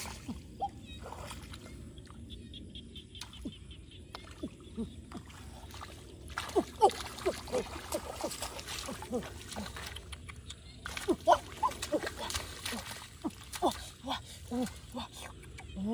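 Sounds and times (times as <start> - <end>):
shallow water splashing: 0.0 - 2.3, 4.2 - 15.0.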